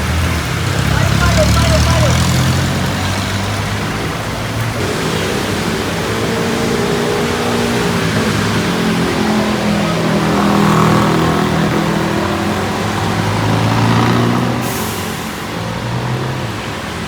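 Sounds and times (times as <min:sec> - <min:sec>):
heavy rain hiss: 0:00.0 - 0:17.0
vehicles passing on wet street: 0:00.0 - 0:17.0.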